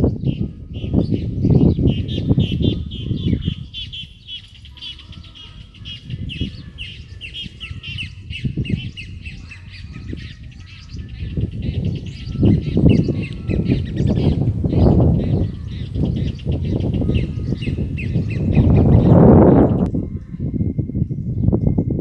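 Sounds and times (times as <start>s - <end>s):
bird singing high chirps: 0.0s - 21.9s.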